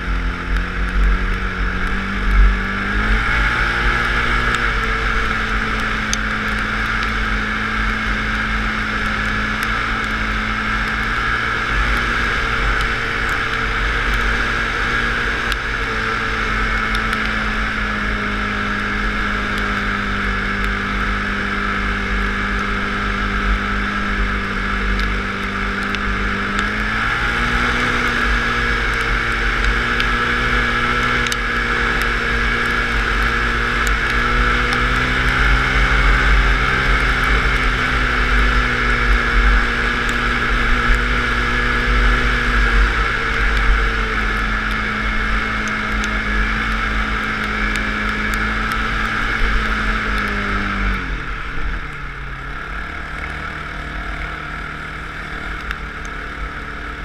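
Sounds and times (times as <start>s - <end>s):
off-road vehicle engine: 0.0s - 57.0s.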